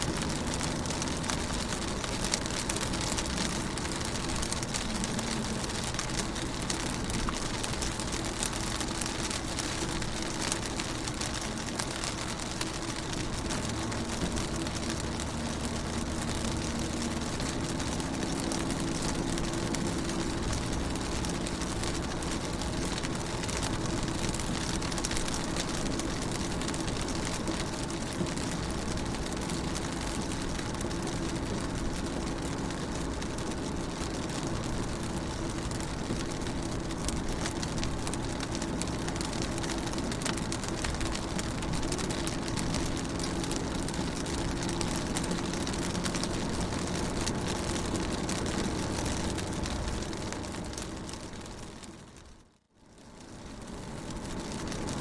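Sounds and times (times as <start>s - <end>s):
rain on a car window: 0.0s - 55.0s.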